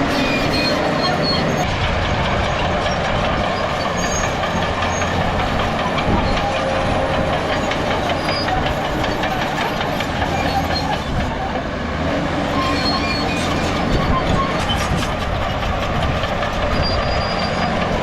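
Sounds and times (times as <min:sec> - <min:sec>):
bulldozer diesel engine running: 0:00.0 - 0:18.0
steel tracks clattering: 0:00.0 - 0:18.0.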